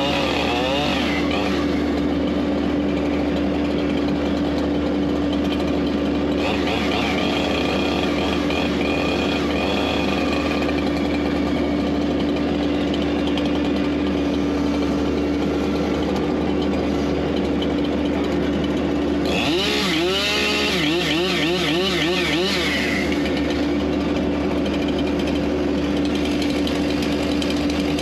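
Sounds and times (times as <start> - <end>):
machinery engine running: 0.0 - 28.0.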